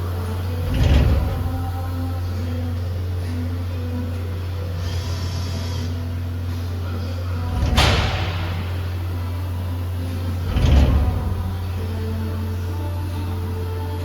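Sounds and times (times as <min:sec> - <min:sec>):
machining centre humming: 0:00.0 - 0:14.0.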